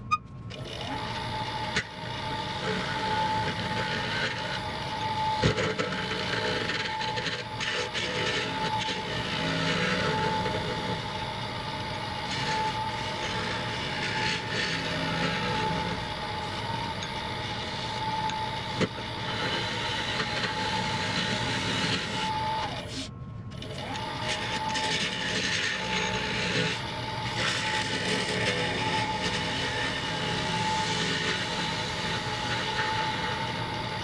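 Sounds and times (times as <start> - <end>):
wood lathe whine: 0.0 - 34.0.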